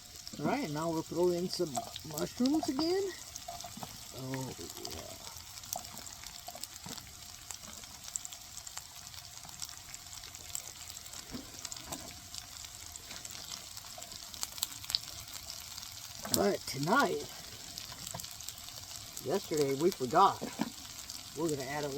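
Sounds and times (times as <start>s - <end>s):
vegetables sizzling in a pan: 0.0s - 21.9s.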